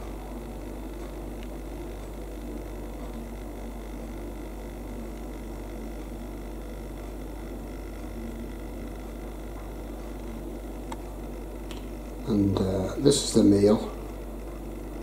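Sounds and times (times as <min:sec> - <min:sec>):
room tone hum and hiss: 0:00.0 - 0:15.0.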